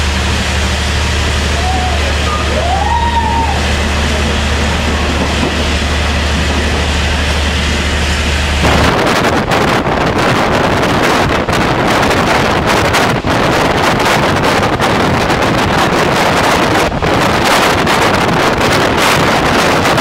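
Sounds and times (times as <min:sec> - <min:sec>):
train running rumble: 0:00.0 - 0:20.0
wind buffeting microphone: 0:00.0 - 0:20.0.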